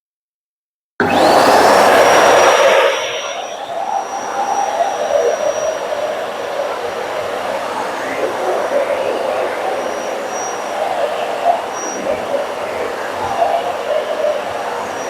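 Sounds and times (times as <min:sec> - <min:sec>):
wet-and-dry vacuum cleaner running: 0:01.0 - 0:15.0.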